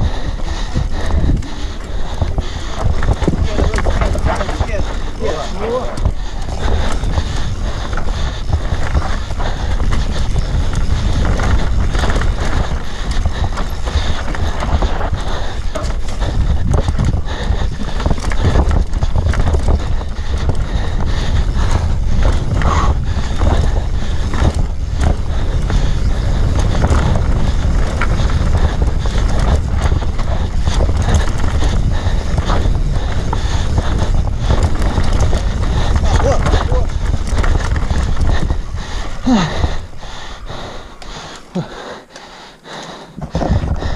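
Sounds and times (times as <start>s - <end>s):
wind buffeting microphone: 0.0s - 42.1s, 42.9s - 43.9s
knocks and rattles on rough ground: 0.0s - 43.9s.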